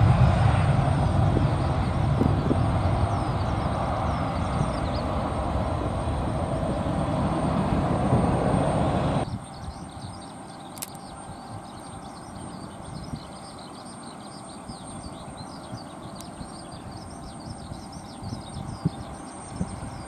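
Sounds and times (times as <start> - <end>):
low outdoor rumble: 0.0 - 20.0
birds chirping: 1.1 - 7.2, 9.2 - 20.0.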